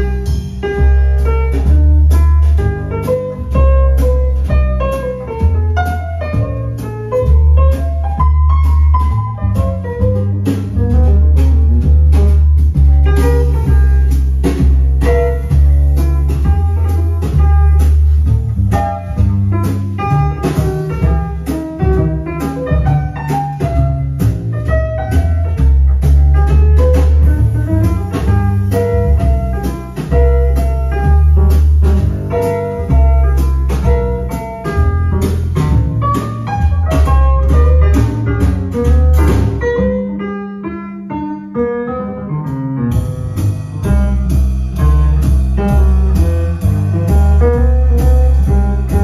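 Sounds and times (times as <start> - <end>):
deep bass notes: 0.0 - 40.2, 41.6 - 49.0.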